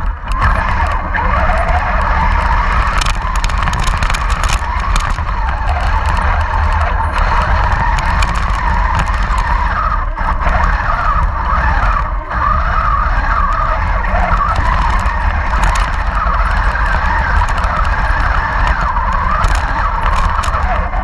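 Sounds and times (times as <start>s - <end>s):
low hum: 0.0s - 21.0s
toy tank motor whine: 0.0s - 21.0s.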